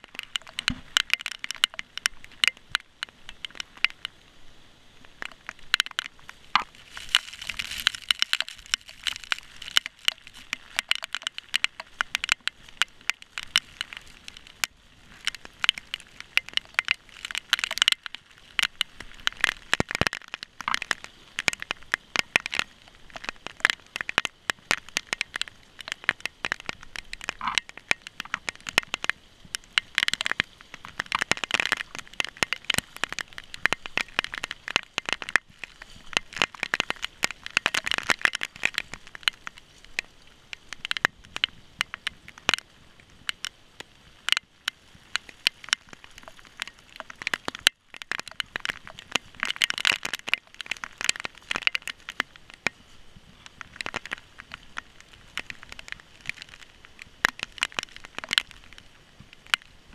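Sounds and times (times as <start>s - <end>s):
rain splashing on camera housing: 0.0s - 59.9s.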